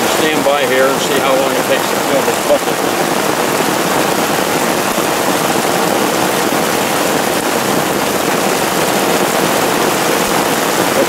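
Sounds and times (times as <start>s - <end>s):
heavy rain on a tarp: 0.0s - 11.0s
water pouring into a bucket: 0.0s - 11.0s.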